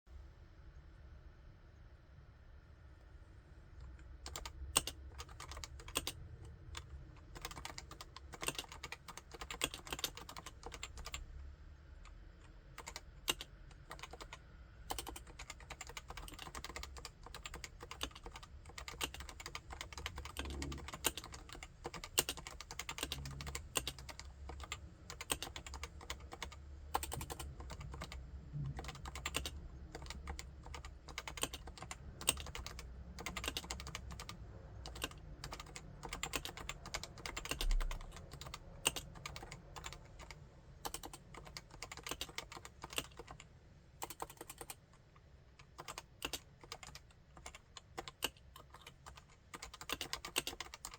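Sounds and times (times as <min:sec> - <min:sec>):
keyboard typing: 0:03.8 - 0:11.3, 0:12.0 - 0:50.9.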